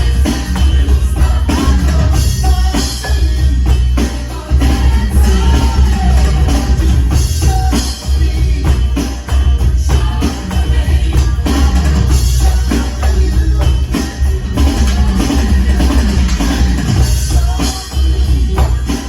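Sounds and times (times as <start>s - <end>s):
drum kit playing: 0.0s - 19.0s
pop-rock song with heavy bass: 0.0s - 19.0s.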